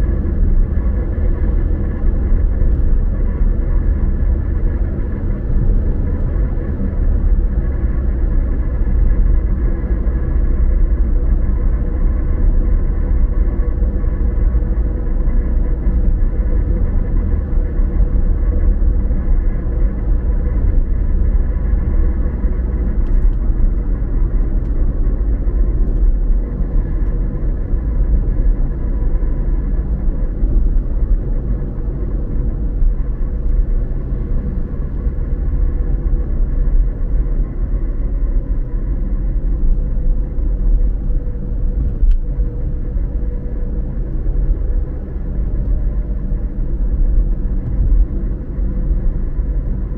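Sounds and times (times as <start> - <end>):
car engine and road noise: 0.0 - 49.9
faint steady hum: 0.0 - 49.9.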